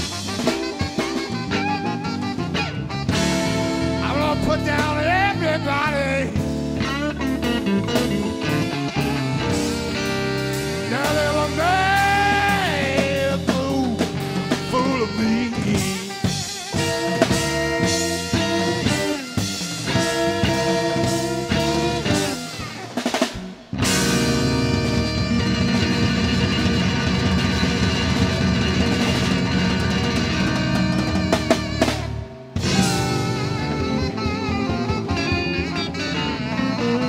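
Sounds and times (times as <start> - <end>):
blues band playing: 0.0 - 37.0
lead line bending notes: 0.0 - 37.0.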